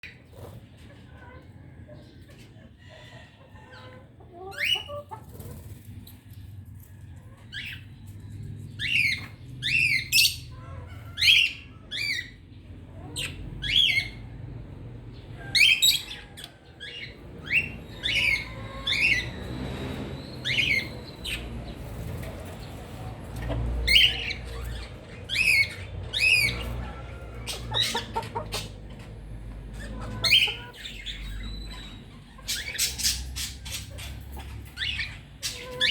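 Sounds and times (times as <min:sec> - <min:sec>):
birds squawking: 0:02.8 - 0:05.7, 0:08.7 - 0:35.9.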